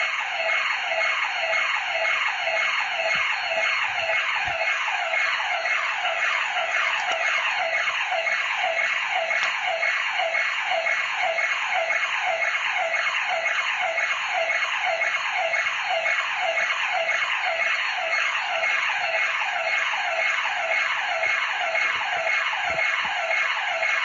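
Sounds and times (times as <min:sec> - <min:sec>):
burglar alarm siren: 0:00.0 - 0:24.0.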